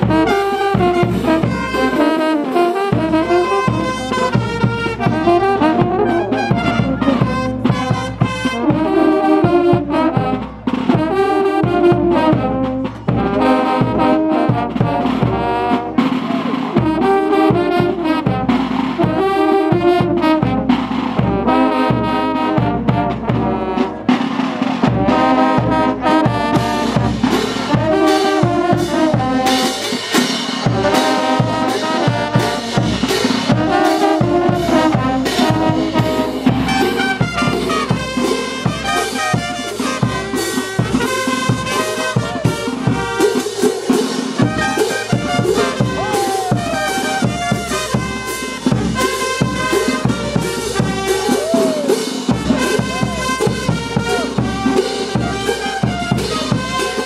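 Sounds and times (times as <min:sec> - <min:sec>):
brass band playing melody: 0:00.0 - 0:57.0
drums keeping steady beat: 0:00.0 - 0:57.0.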